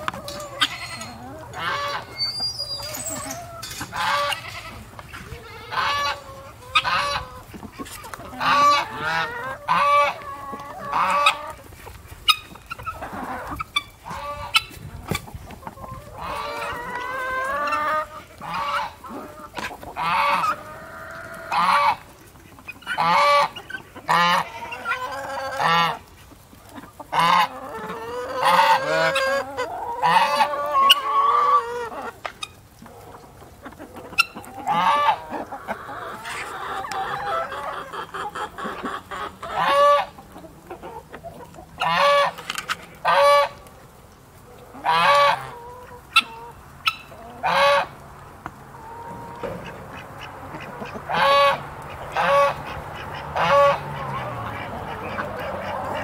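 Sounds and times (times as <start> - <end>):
chickens and guinea fowl calling: 0.0 - 56.0
chickens clucking: 0.0 - 56.0.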